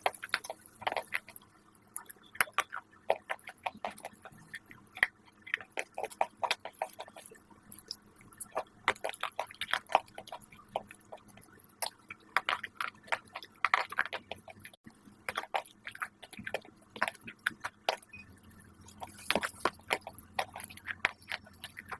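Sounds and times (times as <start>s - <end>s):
crisp crunching and crackling: 0.0s - 21.9s.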